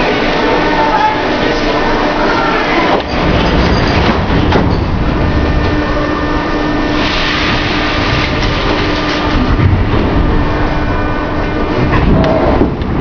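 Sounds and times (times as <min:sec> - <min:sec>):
train car machinery rumble: 0:00.0 - 0:13.0.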